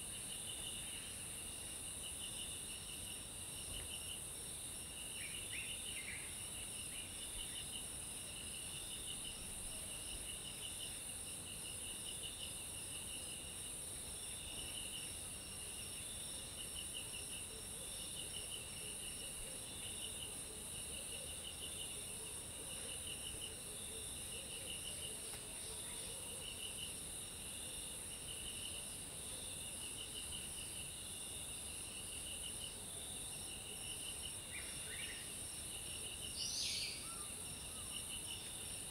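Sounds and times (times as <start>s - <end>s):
insects buzzing and trilling: 0.0s - 38.9s.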